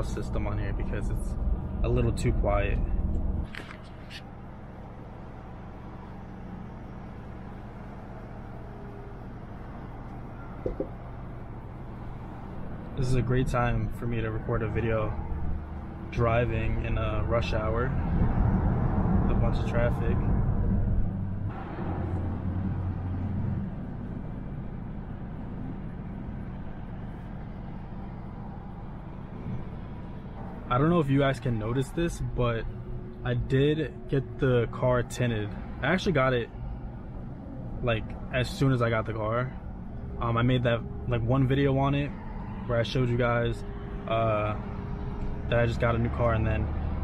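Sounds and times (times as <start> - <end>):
engine and road noise drone: 0.0 - 47.0.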